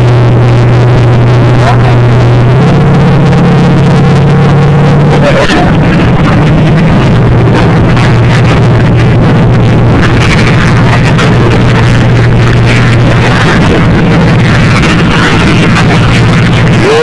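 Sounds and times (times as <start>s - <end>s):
truck engine running loud: 0.0s - 17.0s.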